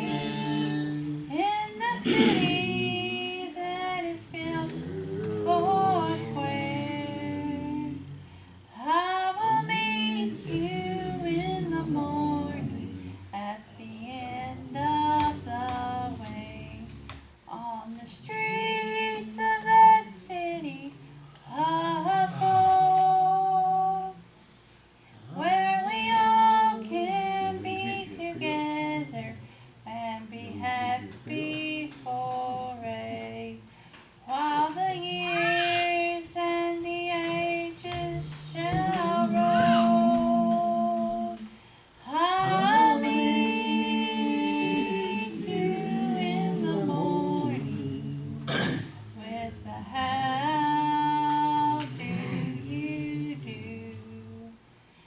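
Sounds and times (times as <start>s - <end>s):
person singing gospel: 0.0s - 24.3s, 25.2s - 54.6s.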